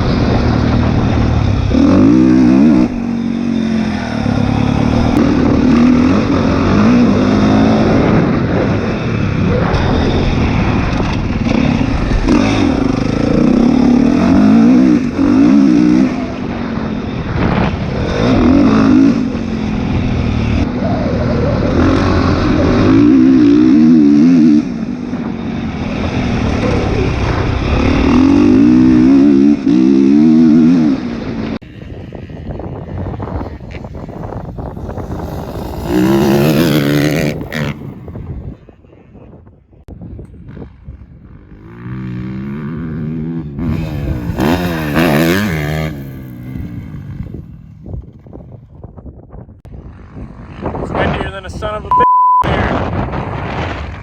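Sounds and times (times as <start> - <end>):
dirt bike engine revving: 0.0 - 38.6, 40.4 - 48.2.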